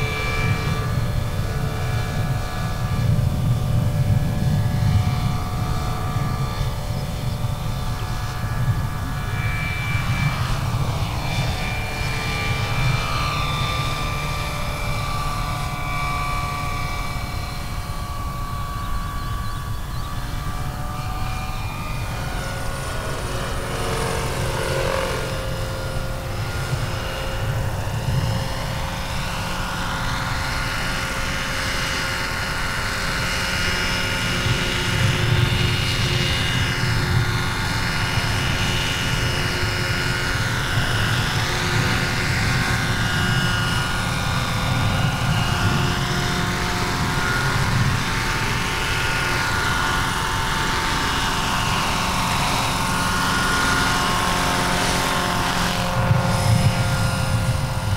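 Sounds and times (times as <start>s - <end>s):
rc helicopter rotor thrum and whine: 0.0s - 57.9s.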